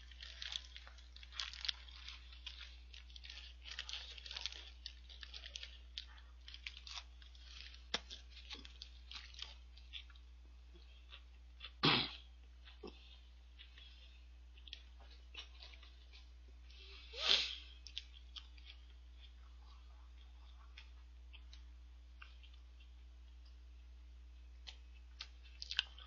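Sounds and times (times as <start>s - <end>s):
chewing and crunching fried food: 0.0s - 26.0s.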